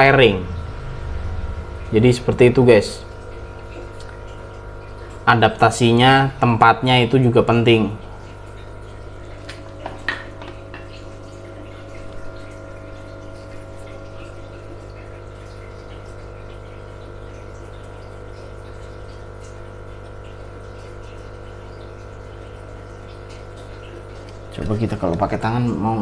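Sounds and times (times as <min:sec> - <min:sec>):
water pump humming: 0:00.0 - 0:26.0
water trickling: 0:00.0 - 0:26.0.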